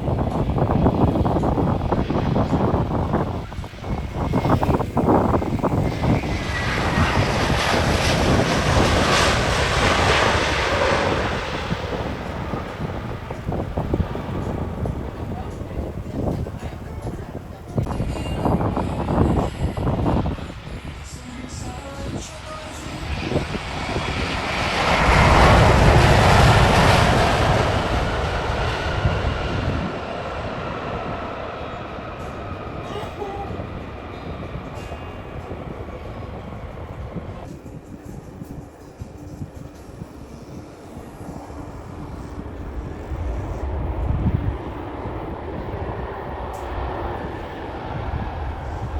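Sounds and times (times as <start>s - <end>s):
jet airliner passing: 0.0s - 48.9s
wind buffeting microphone: 0.0s - 48.9s.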